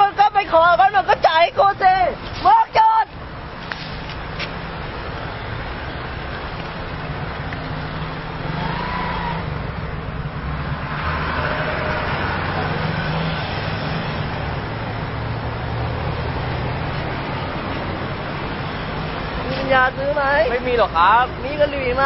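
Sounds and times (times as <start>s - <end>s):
car engines running: 0.0s - 22.0s
hum of passing vehicles: 0.0s - 22.0s.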